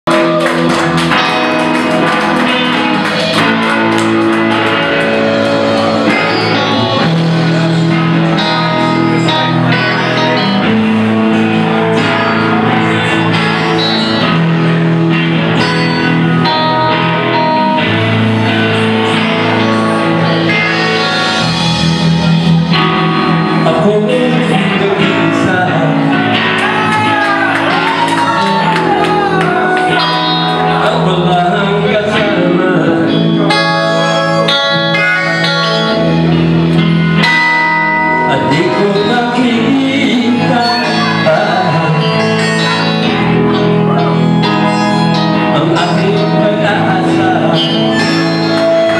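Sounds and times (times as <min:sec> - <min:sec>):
rock band playing loudly: 0:00.0 - 0:48.9
electric guitar lead bending pitch: 0:00.1 - 0:48.9.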